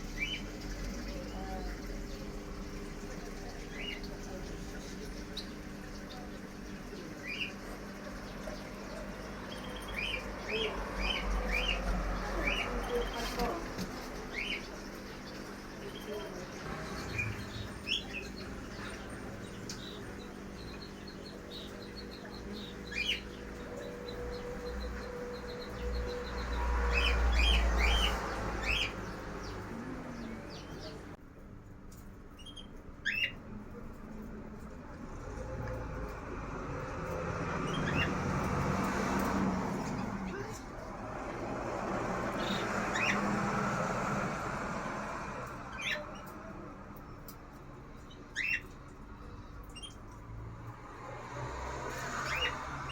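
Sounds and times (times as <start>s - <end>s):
small birds chirping: 0.0s - 31.2s, 32.2s - 52.9s.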